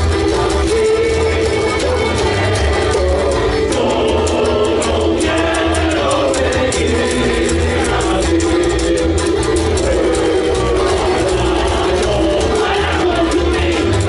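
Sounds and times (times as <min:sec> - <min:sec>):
live folk band playing: 0:00.0 - 0:14.0
person singing lead vocal: 0:00.6 - 0:14.0.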